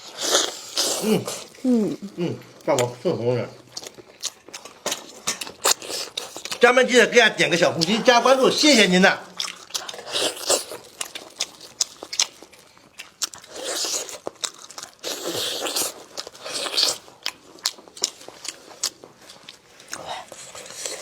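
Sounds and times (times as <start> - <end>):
person chewing crunchy food: 0.0 - 3.0, 3.6 - 21.0.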